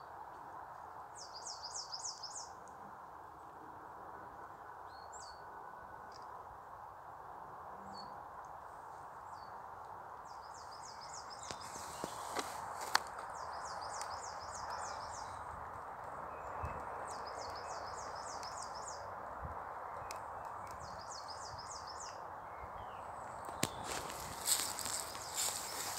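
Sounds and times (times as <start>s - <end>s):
songbird singing: 0.0s - 3.0s, 4.1s - 6.4s, 7.7s - 25.9s.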